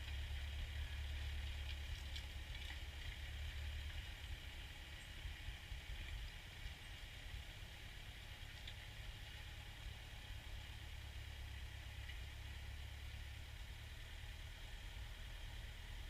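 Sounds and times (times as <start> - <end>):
tractor engine rumbling: 0.0 - 16.0.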